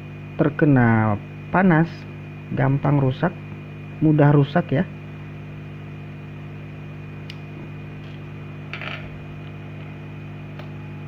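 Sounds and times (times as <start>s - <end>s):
hot-air blower humming: 0.0s - 11.0s.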